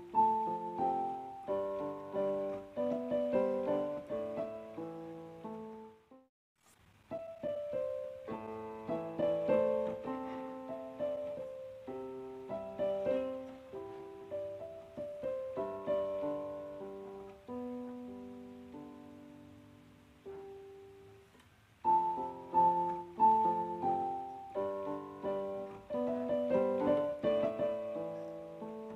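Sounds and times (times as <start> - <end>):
piano music: 0.0 - 6.3, 7.1 - 28.9.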